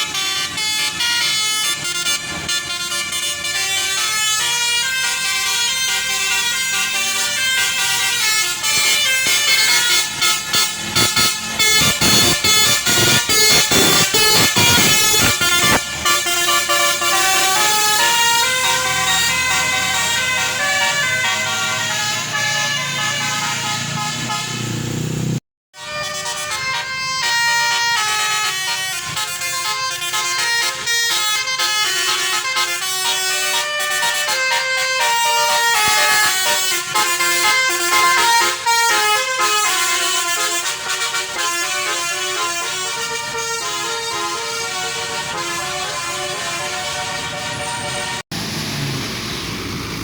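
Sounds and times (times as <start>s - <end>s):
musical bus horns playing tunes: 0.0s - 48.2s
bus engine drone: 0.0s - 50.0s.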